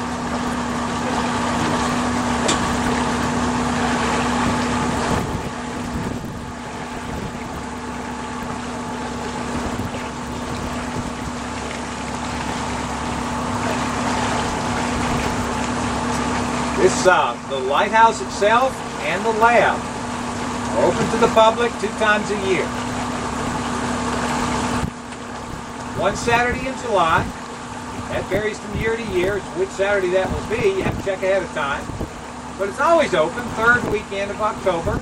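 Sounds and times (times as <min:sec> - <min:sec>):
boat engine humming: 0:00.0 - 0:35.0
wind and water rushing: 0:00.0 - 0:35.0.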